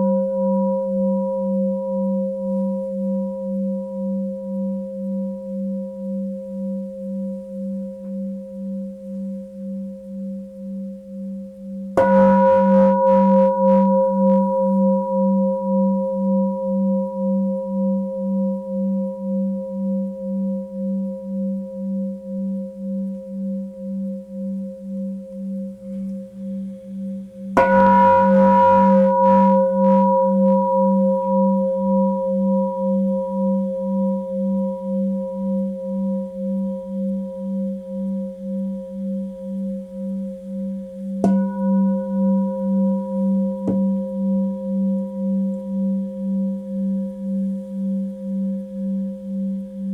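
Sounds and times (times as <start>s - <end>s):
singing bowl ringing: 0.0s - 11.2s, 11.9s - 49.9s.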